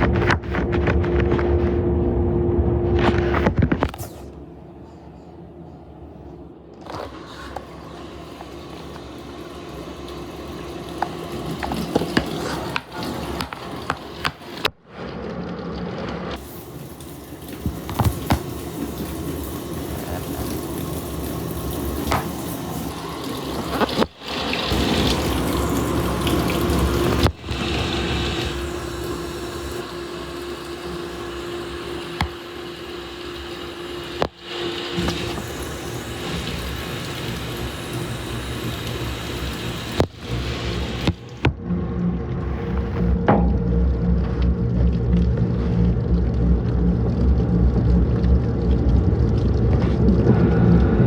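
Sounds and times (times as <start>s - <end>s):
steady hum: 0.0s - 51.0s
washing machine filling with water: 6.8s - 51.0s.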